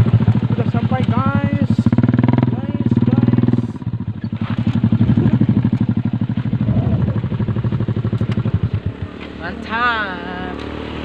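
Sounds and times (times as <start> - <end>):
motorcycle engine under throttle: 0.0 - 11.0.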